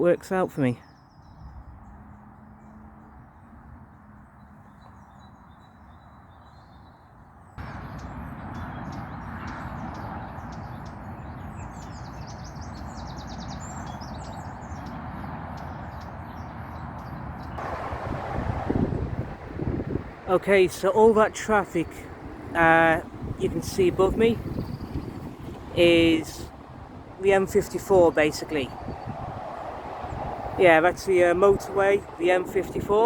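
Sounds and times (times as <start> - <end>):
small birds chirping: 0.0 - 3.6, 4.2 - 17.7, 18.7 - 33.0
motorway traffic hum: 0.0 - 33.0.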